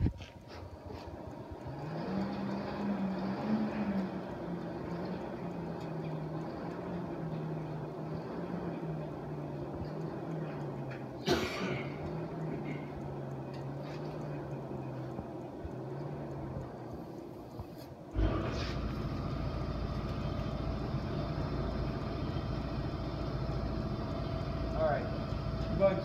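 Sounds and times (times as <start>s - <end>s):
forge blower humming: 0.0s - 26.0s.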